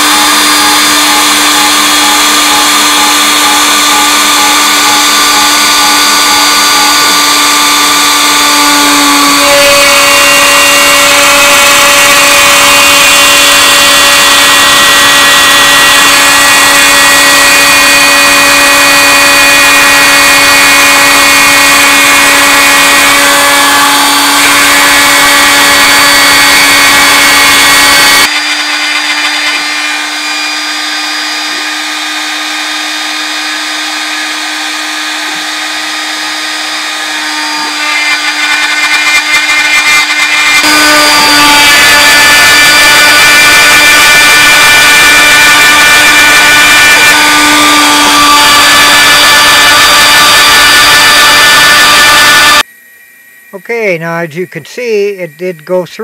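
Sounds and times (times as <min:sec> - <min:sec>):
router spindle cutting wood: 0:00.0 - 0:52.7.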